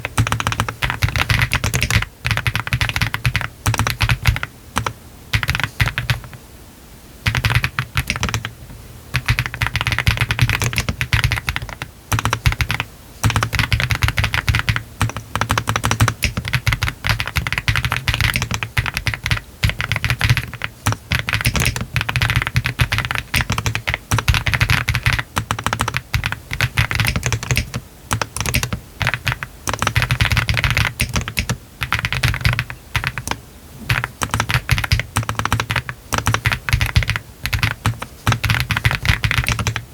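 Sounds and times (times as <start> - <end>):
fast typing on mechanical keyboard: 0.0 - 6.4, 7.2 - 39.9.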